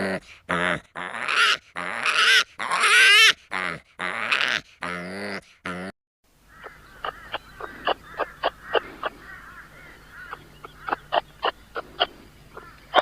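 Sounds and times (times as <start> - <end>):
animal calling: 0.0 - 5.9, 6.5 - 13.0.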